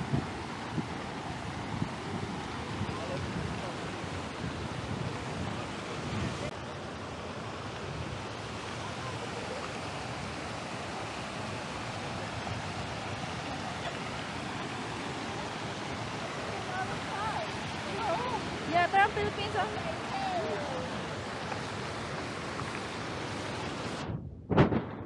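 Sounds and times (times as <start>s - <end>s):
wind gusting on microphone: 0.0s - 6.5s, 7.8s - 25.0s.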